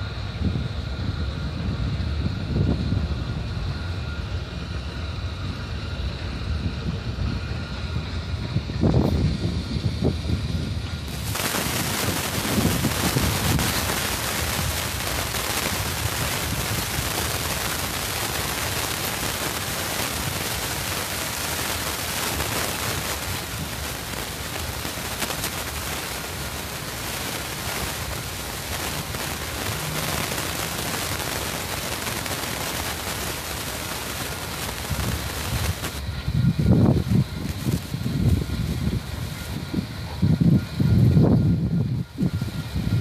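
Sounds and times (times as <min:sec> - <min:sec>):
train wheels rushing on rail: 0:00.0 - 0:43.0.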